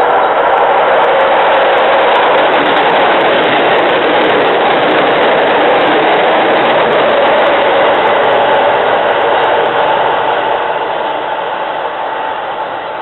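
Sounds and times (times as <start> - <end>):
train passing at speed: 0.0 - 13.0.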